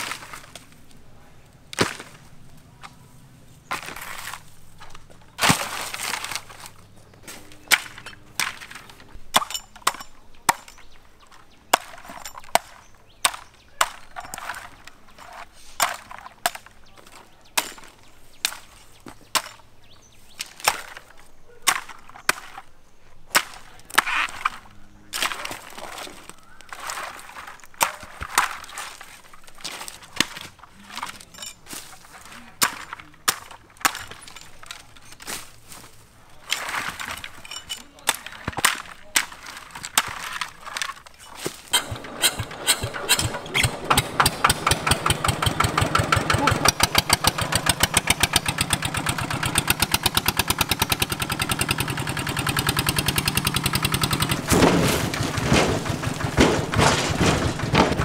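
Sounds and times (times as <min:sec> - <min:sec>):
machete chopping coconut stalks: 0:01.7 - 0:03.0, 0:03.7 - 0:10.9, 0:11.7 - 0:19.8, 0:20.4 - 0:58.0.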